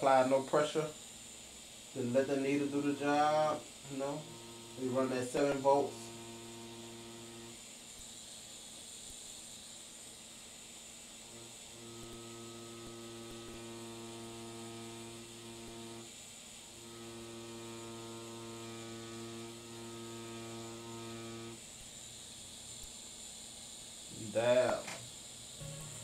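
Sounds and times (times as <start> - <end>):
tattoo machine humming: 0.0 - 23.2, 23.9 - 26.0.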